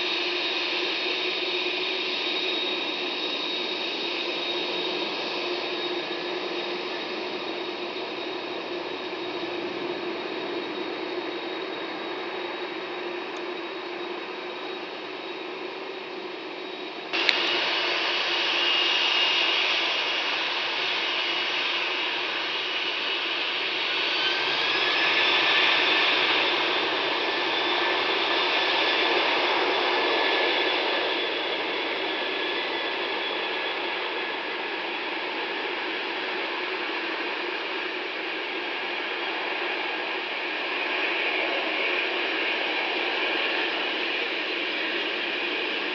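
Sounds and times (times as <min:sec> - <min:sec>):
jet engines whining: 0:00.0 - 0:45.9.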